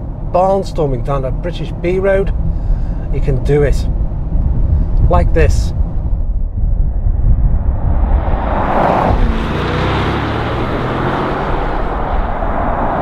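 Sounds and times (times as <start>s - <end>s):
car engine rumble: 0.0s - 13.0s
road and wind noise: 0.0s - 13.0s.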